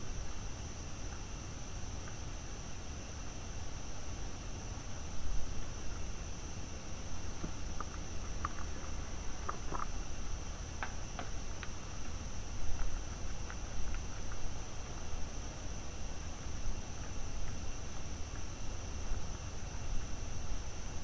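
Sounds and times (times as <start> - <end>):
night insects chorus: 0.0 - 21.0.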